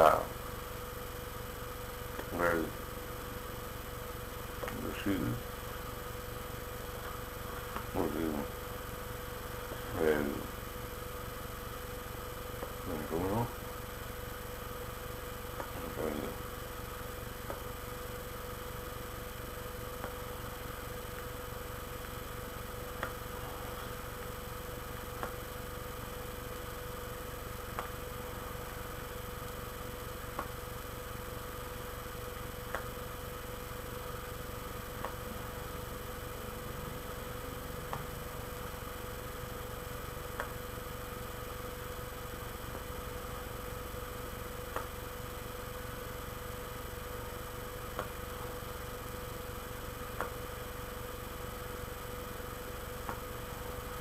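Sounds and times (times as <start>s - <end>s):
electrical hum with faint tone: 0.0s - 54.0s.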